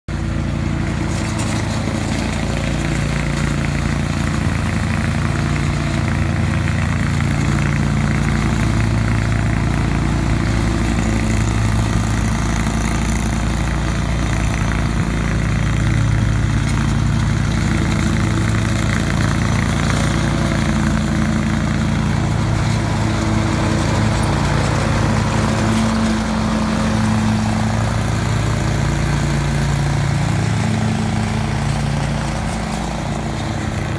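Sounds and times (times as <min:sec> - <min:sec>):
lawn mower engine running: 0:00.1 - 0:33.9.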